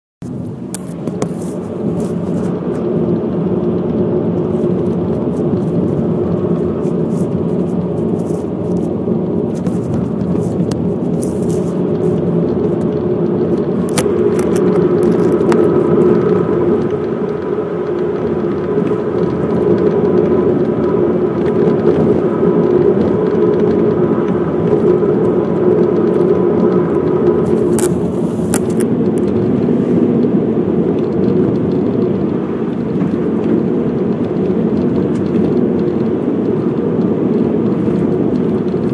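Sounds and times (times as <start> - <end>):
car road and engine noise: 0.2 - 38.9
windshield ticks and rattles: 0.2 - 38.9.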